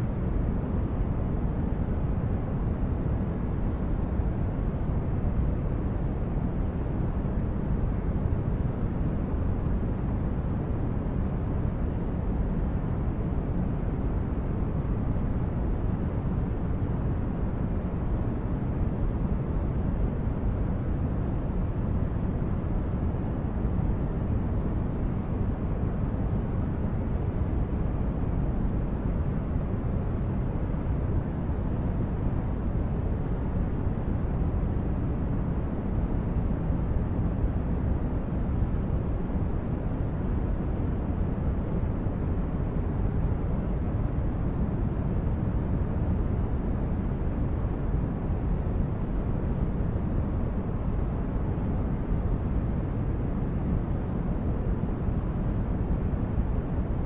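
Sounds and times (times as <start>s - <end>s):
low rumble of brown noise: 0.0s - 57.0s.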